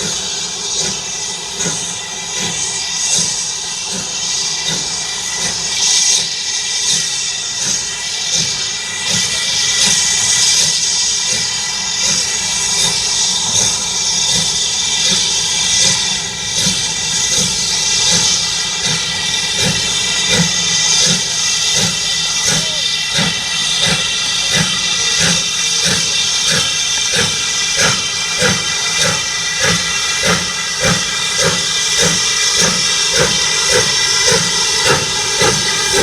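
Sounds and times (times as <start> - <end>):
steam locomotive hissing: 0.0 - 36.0.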